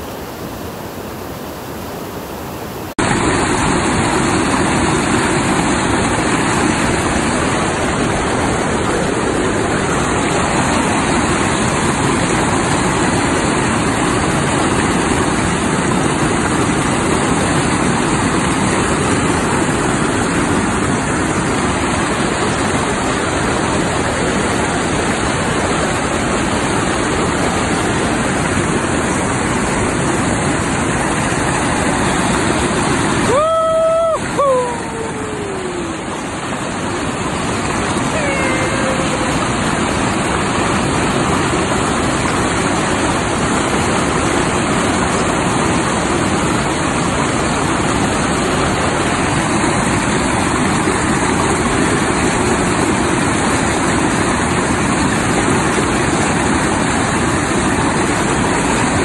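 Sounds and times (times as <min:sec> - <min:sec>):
river rapids rushing over rocks: 0:00.0 - 0:59.0.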